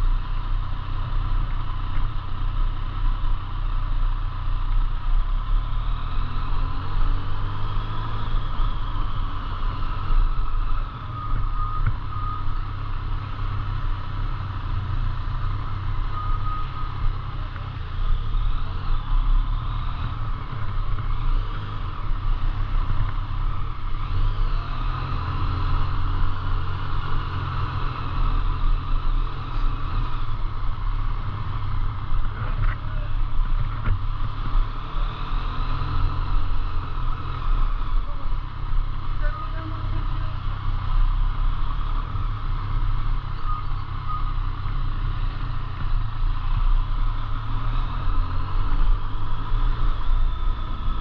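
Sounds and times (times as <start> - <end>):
engine and road noise rumble: 0.0 - 51.0.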